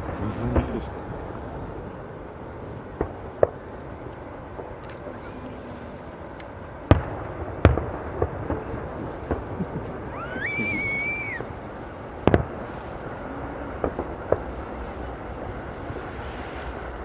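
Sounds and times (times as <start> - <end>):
steady background hiss: 0.0 - 17.0
firework shells bursting: 2.9 - 17.0.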